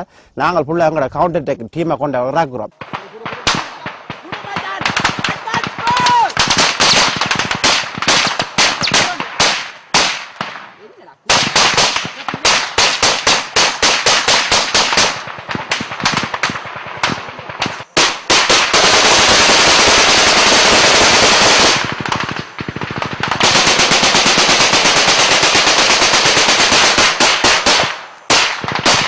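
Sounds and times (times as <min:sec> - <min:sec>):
automatic gunfire: 0:02.8 - 0:29.0.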